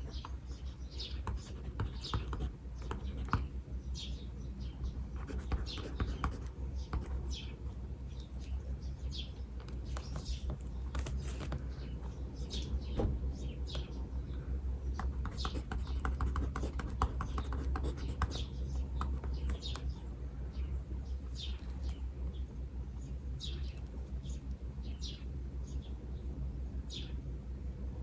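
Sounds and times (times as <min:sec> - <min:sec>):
small birds chirping: 0:00.0 - 0:27.4
steady low hum: 0:00.0 - 0:28.0.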